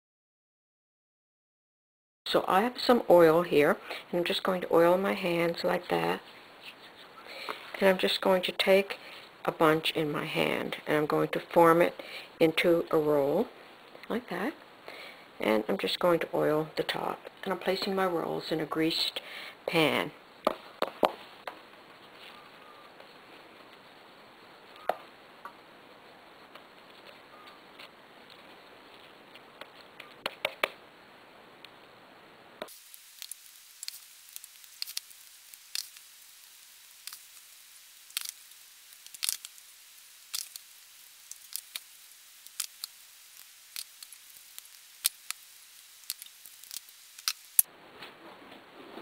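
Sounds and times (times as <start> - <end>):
faint hiss: 2.3 - 49.0.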